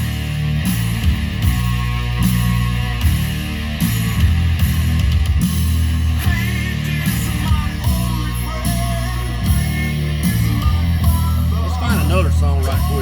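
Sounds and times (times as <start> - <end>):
heavy rock music: 0.0 - 13.0.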